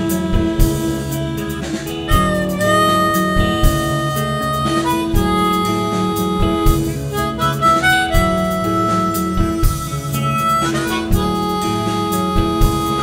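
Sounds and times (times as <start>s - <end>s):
bass guitar: 0.0s - 13.0s
blues harmonica: 0.0s - 13.0s
drums: 0.0s - 13.0s.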